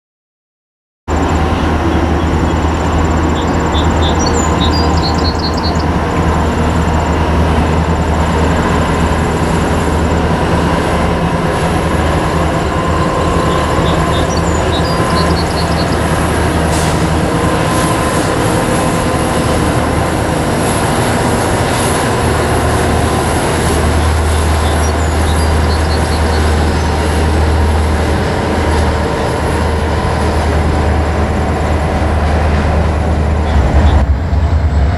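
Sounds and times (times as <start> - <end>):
freight train rumbling: 1.1 - 34.9
locomotive engine drone: 1.1 - 34.9.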